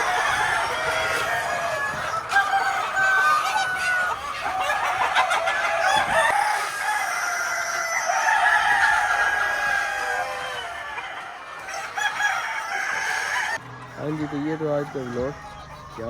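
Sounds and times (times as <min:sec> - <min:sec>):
hens clucking: 0:00.0 - 0:16.0
roosters crowing: 0:00.0 - 0:16.0.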